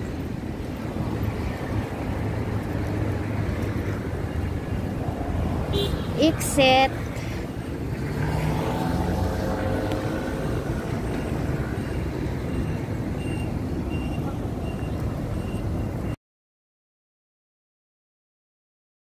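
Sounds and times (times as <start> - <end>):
city road traffic: 0.0 - 16.2.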